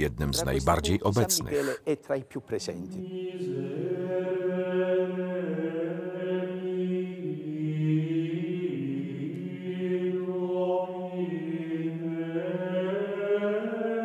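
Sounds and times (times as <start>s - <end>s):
voices singing a slow chant: 2.6s - 14.0s.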